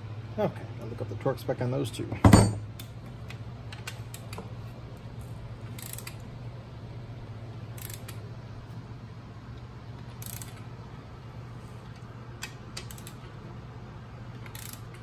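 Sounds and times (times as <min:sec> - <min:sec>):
shop fan hum: 0:00.0 - 0:15.0.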